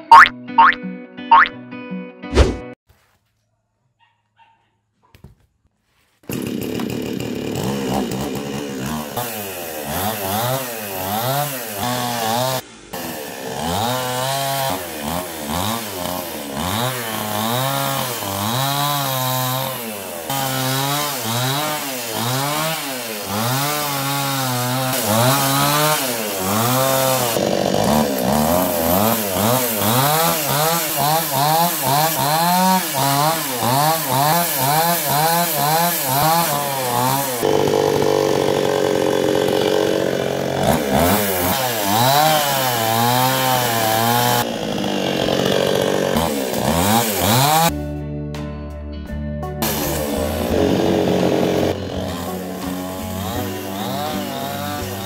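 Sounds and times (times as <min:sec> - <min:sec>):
chainsaw cutting wood: 0:06.2 - 0:47.8, 0:49.6 - 0:55.0.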